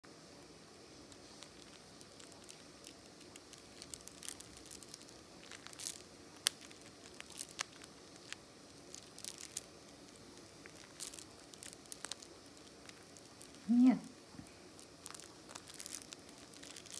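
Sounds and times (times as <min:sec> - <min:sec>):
beads clicking together: 0:01.1 - 0:13.7, 0:14.7 - 0:16.9.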